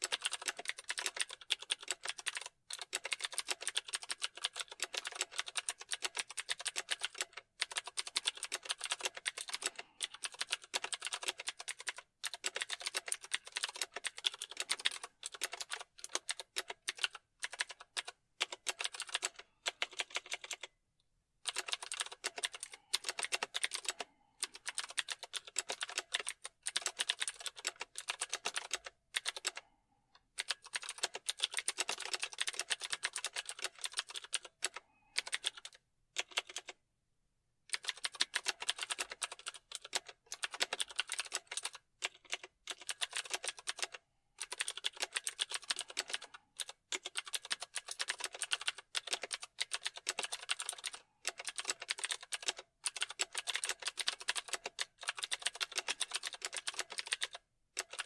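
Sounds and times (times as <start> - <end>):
fast keyboard typing: 0.0 - 20.7, 21.4 - 29.7, 30.3 - 36.8, 37.7 - 58.0.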